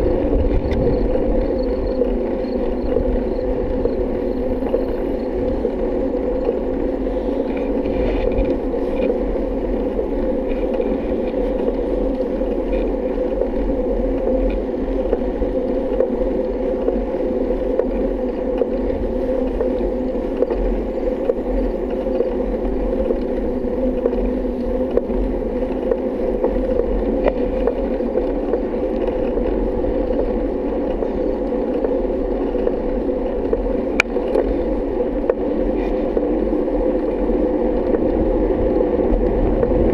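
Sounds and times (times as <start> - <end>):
bike tyres rolling on road: 0.0 - 39.9.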